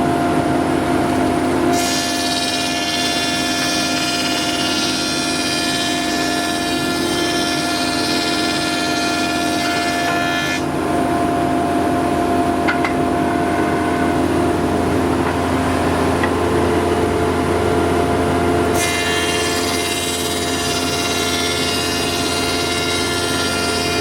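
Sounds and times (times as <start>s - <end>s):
thickness planer whining: 0.0s - 24.0s
planer cutting timber: 1.0s - 24.0s.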